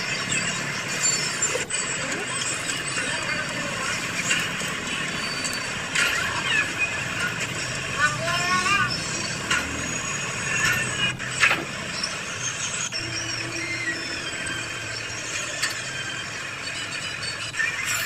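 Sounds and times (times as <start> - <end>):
high-pitched squeaks: 0.0 - 18.0.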